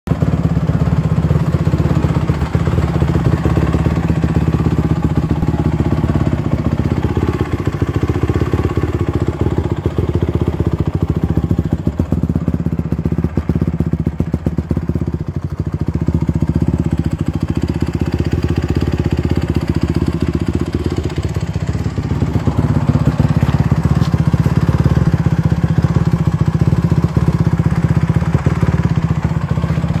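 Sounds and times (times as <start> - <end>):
motorcycle engine idling: 0.1 - 30.0.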